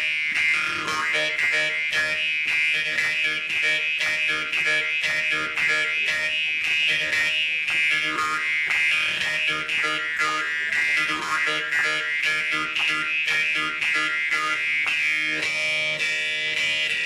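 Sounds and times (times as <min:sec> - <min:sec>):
jaw harp buzzing: 0:00.0 - 0:17.0.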